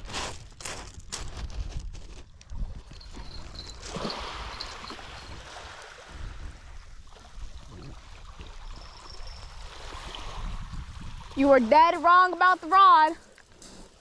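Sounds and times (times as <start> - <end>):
wind rumble on microphone: 0.0 - 12.0
water lapping on rocks: 0.0 - 14.0.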